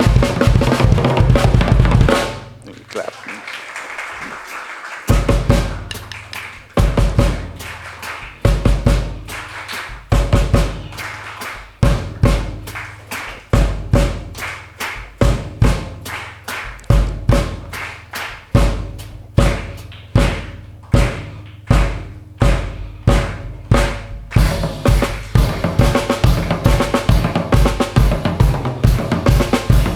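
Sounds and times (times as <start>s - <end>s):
snare drum strokes: 4.2s - 29.9s.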